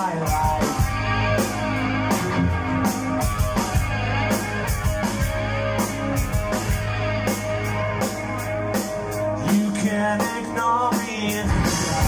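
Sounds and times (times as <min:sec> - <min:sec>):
bass guitar: 0:00.0 - 0:12.0
drum kit with cymbal hits: 0:00.0 - 0:12.0
electric guitars: 0:00.0 - 0:12.0.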